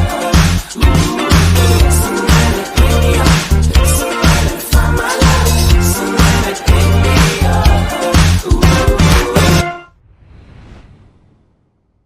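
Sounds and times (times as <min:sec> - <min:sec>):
pop music with bass beat: 0:00.0 - 0:09.8.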